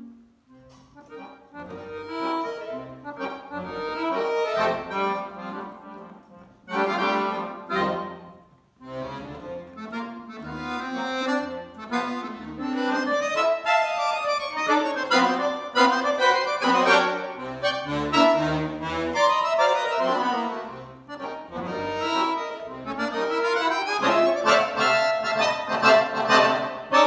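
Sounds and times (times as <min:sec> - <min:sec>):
accordions playing chords: 0:00.0 - 0:27.0.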